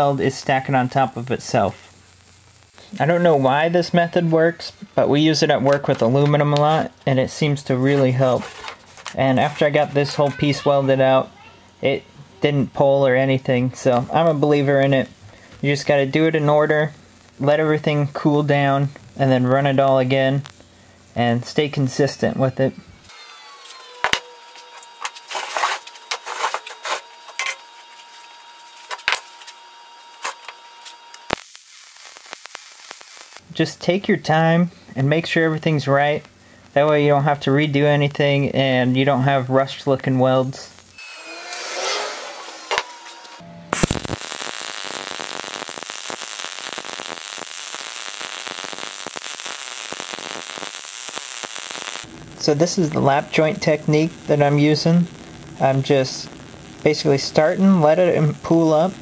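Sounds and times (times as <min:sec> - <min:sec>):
welder arc crack and hiss: 0:00.0 - 0:59.0.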